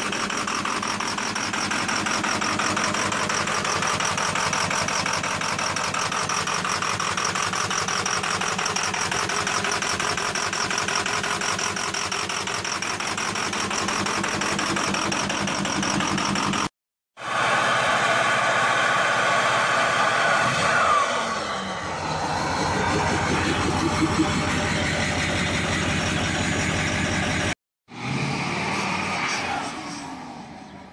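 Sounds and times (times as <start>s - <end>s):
diesel engine idling: 0.0s - 27.6s.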